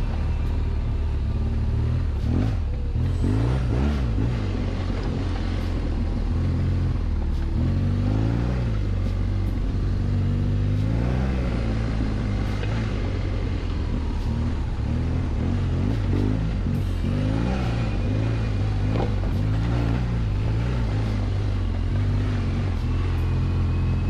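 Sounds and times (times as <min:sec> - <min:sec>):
motorcycle engine revving: 0:00.0 - 0:24.0
wind and road noise: 0:00.0 - 0:24.0.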